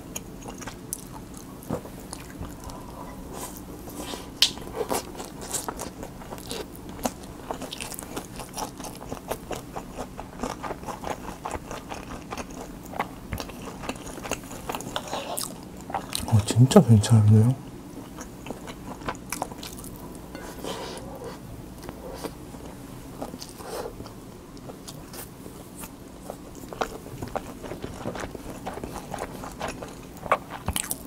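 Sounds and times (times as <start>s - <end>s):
close chewing with mouth clicks: 0.0s - 16.4s, 17.9s - 20.0s, 21.8s - 31.0s.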